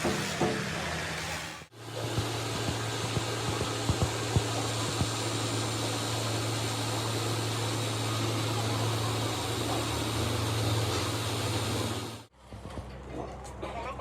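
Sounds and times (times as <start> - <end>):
machinery humming with hiss: 0.0 - 12.3.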